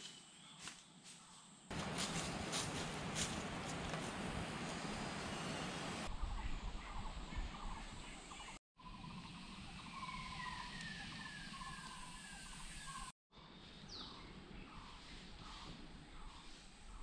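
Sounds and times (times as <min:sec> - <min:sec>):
jungle ambience: 0:00.0 - 0:17.0.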